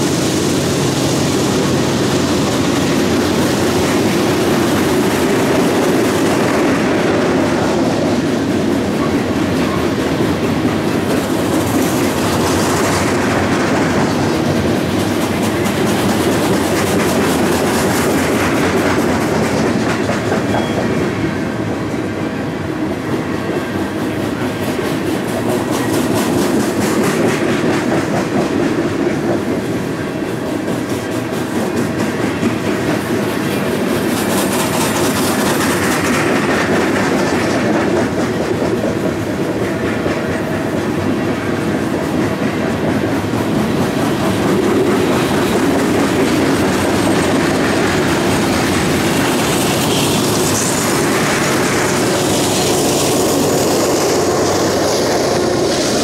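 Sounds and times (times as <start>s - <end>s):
steel wheels rumbling on rail: 0.0s - 56.0s
wheels clacking over rail joints: 0.0s - 56.0s.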